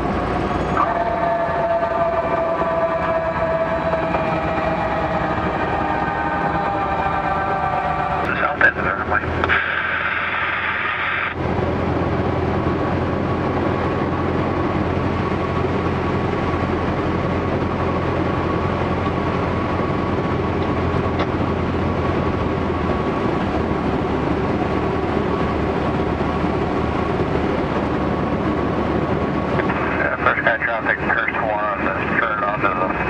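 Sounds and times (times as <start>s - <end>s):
plane engine droning: 0.0s - 33.0s
thin steady whine: 0.5s - 33.0s.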